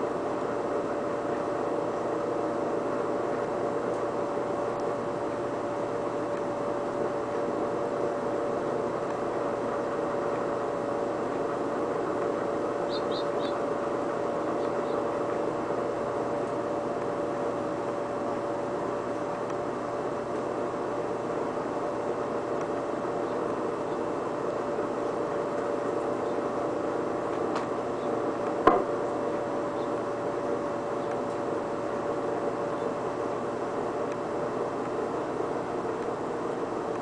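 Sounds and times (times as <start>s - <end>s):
air conditioner and fan whirring: 0.0s - 37.0s.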